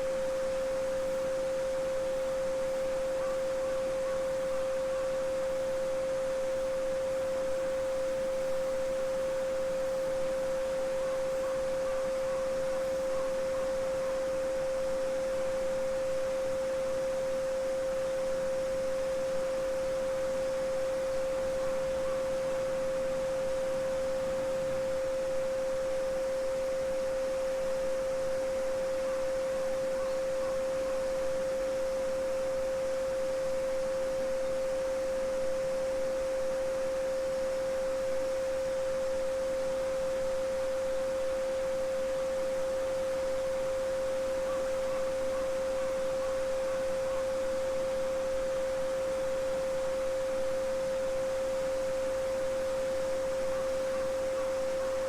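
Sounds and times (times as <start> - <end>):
steady sine tone: 0.0 - 55.0.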